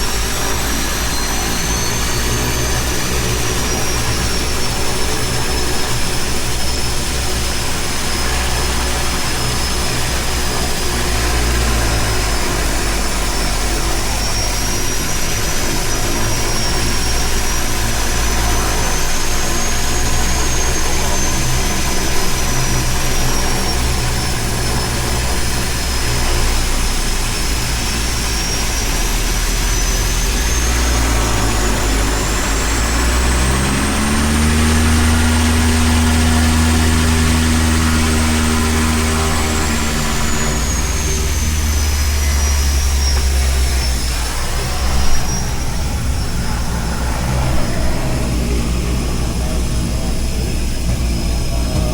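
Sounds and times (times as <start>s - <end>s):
high turbine whine: 0.0s - 51.9s
turboprop engines droning: 0.0s - 51.9s.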